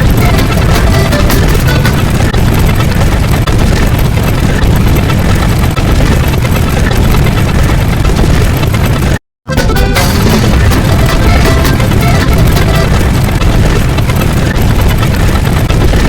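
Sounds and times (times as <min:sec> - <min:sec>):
heavy machine rumble: 0:00.0 - 0:16.0.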